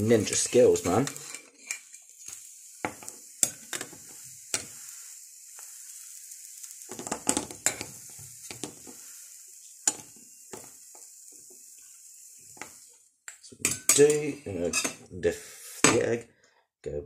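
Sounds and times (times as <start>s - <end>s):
butter sizzling in a frying pan: 0.0s - 16.0s.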